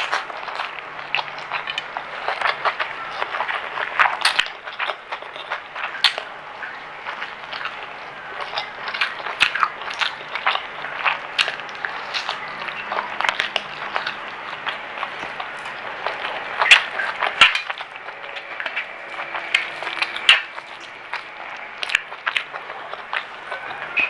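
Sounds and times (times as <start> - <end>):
crunching fried food: 0.0 - 24.0.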